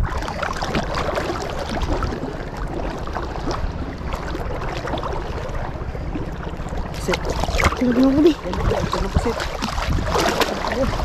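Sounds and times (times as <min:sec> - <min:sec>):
boat engine running: 0:00.0 - 0:11.0
small water splashes: 0:00.0 - 0:11.0
water wash: 0:00.0 - 0:11.0.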